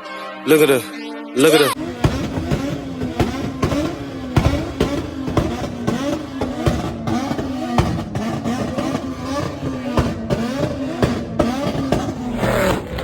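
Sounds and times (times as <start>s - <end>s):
car engine revving hard: 1.8s - 13.0s
sharp exhaust pops: 1.8s - 13.0s.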